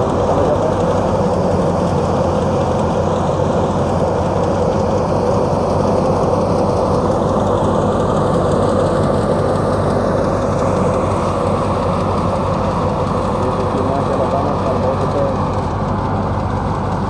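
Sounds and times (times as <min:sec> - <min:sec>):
thresher and tractor running: 0:00.0 - 0:17.0.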